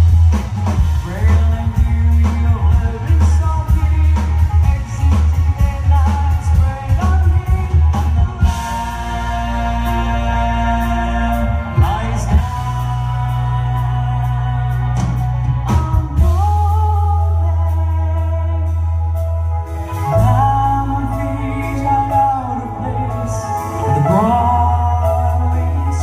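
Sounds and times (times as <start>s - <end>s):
drums: 0.0s - 26.0s
electric guitar: 0.0s - 26.0s
pulsing bass notes: 0.0s - 26.0s.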